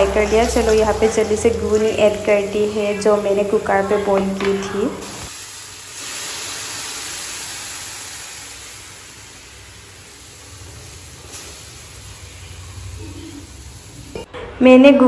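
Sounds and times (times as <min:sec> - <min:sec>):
food sizzling in hot oil: 0:00.0 - 0:14.3.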